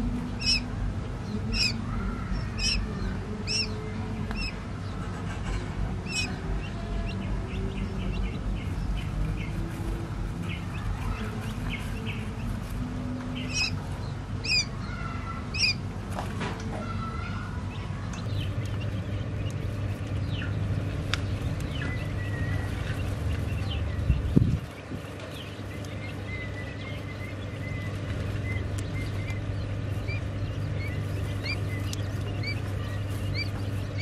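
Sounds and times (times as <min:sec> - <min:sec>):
low hum: 0:00.0 - 0:34.0
quail chicks peeping: 0:00.0 - 0:34.0.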